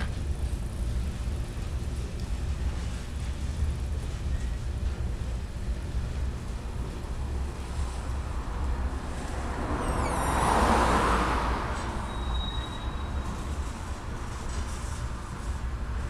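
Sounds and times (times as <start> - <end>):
car tyre noise passing: 0.0 - 16.0
freight train rumbling: 0.0 - 16.0.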